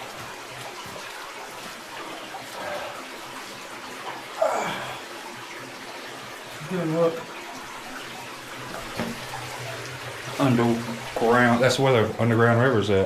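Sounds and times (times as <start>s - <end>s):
water rushing through cave: 0.0s - 13.0s.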